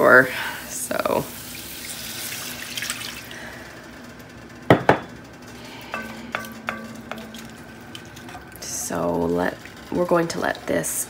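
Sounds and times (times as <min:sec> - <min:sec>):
broth pouring into a pot: 0:00.1 - 0:03.7, 0:05.6 - 0:11.0.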